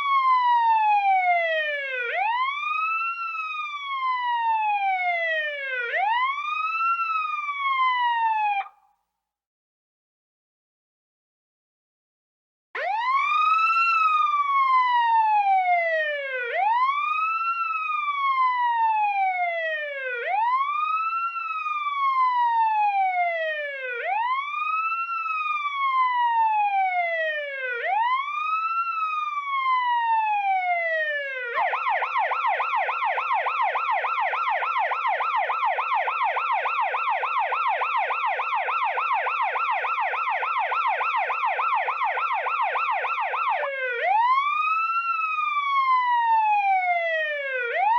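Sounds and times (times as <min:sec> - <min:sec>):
police siren wail and yelp: 0:00.0 - 0:08.9, 0:12.8 - 0:47.9.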